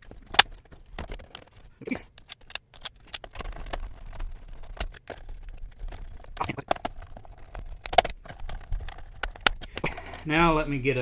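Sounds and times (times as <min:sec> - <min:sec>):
plastic parts clicking and knocking: 0:00.0 - 0:11.0.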